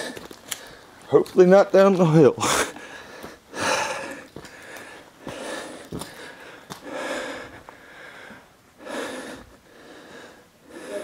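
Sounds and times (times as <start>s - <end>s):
man breathing heavily: 0.0s - 1.0s, 2.4s - 11.0s.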